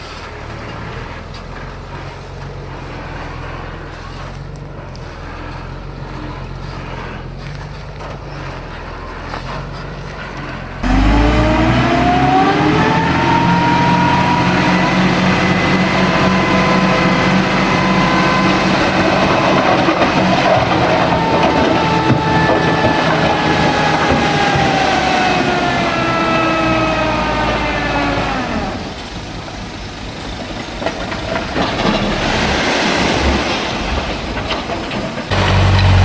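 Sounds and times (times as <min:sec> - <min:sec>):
heavy diesel engine revving: 0:00.0 - 0:29.7, 0:35.2 - 0:36.0.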